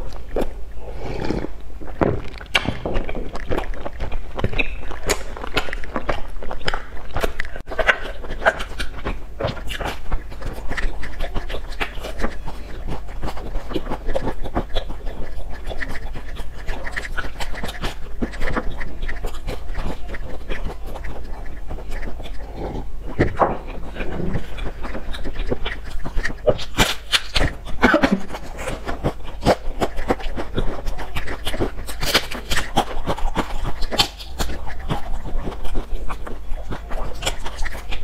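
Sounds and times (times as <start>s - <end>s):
wet chewing mouth sounds: 0.0s - 38.0s.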